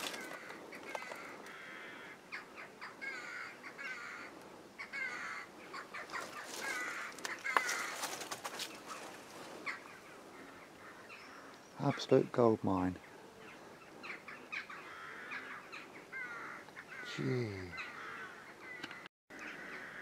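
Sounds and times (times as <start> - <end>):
birds wavering call: 0.0 - 20.0.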